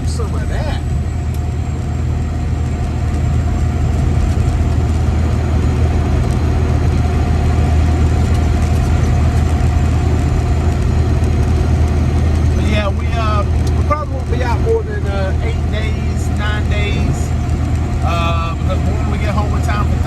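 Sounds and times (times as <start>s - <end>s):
diesel truck engine droning: 0.0s - 20.0s
road noise: 0.0s - 20.0s.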